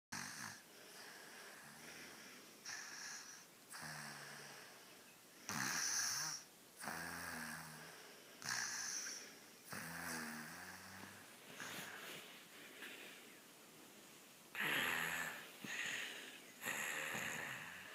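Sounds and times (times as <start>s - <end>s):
child snoring: 0.1s - 4.9s, 5.5s - 12.0s, 14.6s - 17.9s.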